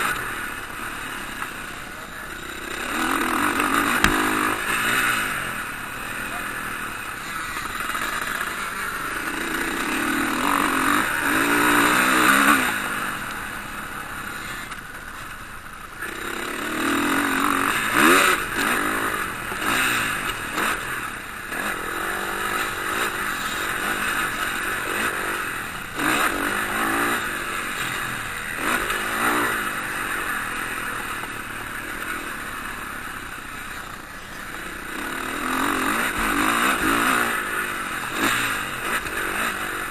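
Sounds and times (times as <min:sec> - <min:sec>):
motocross motorcycles revving: 0:00.0 - 0:39.9.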